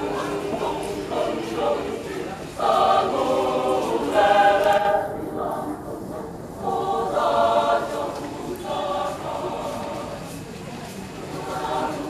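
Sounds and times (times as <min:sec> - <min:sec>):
choir singing: 0:00.0 - 0:10.4, 0:11.2 - 0:12.0.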